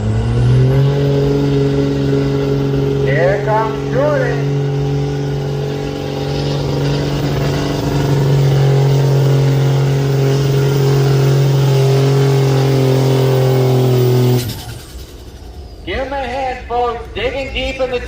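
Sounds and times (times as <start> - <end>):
diesel truck engine at high revs: 0.0 - 18.0.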